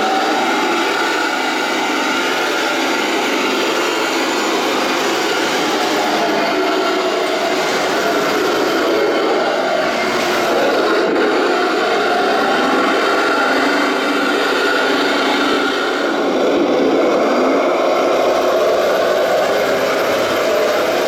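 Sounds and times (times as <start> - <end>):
toy tank motors and tracks grinding: 0.0 - 21.0.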